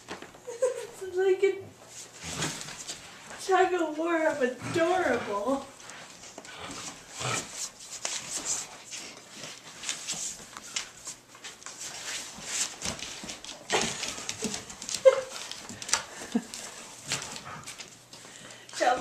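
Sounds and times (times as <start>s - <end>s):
puppies scuffling on wooden floor: 0.0s - 19.0s.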